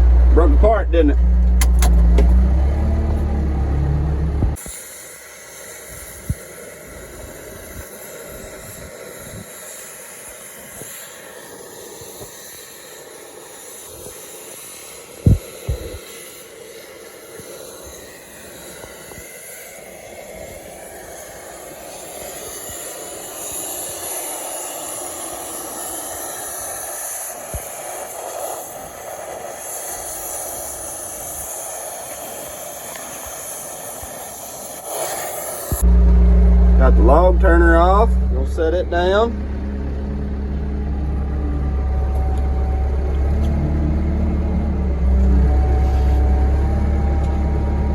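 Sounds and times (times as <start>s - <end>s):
heavy equipment running: 0.0s - 33.2s, 34.0s - 47.9s.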